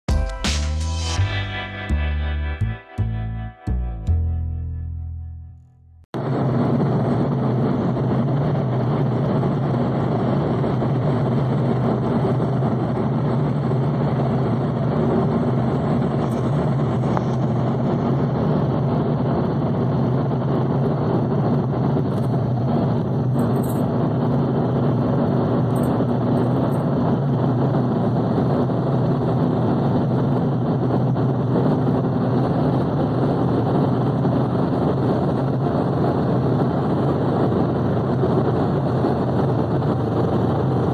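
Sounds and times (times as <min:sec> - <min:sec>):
car engine drone: 0:06.2 - 0:40.9
road and wind noise: 0:06.2 - 0:40.9.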